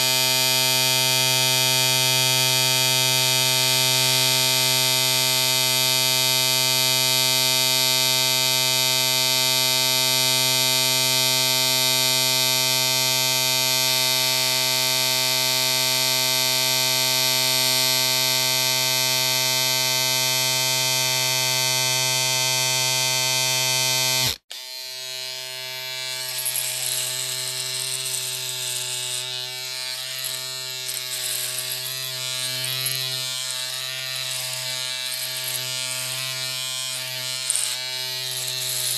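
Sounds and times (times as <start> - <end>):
small appliance motor buzzing: 0.0 - 38.9.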